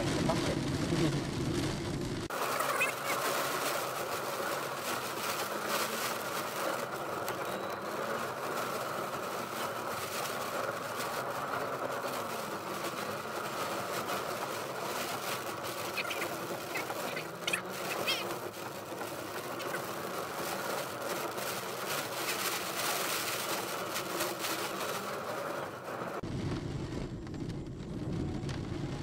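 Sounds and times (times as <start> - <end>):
car engine and road noise: 0.0 - 29.0
heavy rain on car roof: 0.0 - 29.0.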